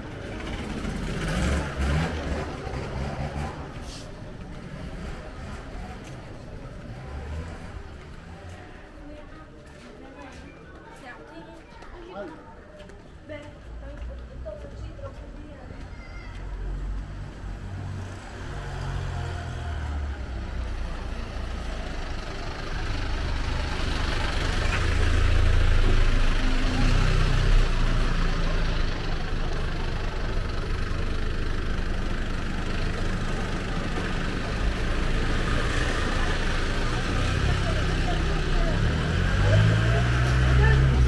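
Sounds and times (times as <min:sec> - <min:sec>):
vehicle engine rumbling: 0:00.0 - 0:10.9, 0:13.6 - 0:41.0
street noise: 0:00.0 - 0:41.0.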